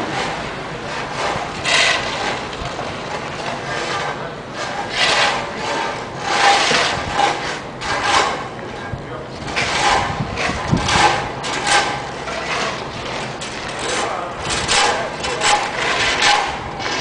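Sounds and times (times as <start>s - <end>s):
rough scraping strokes: 0.0s - 17.0s
steady background rumble: 0.0s - 17.0s.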